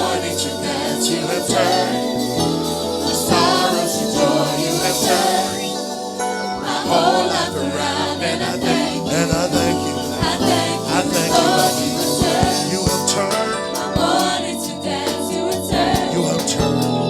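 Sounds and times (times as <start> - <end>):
drums beating: 0.0 - 17.0
gospel choir singing with band: 0.0 - 17.0.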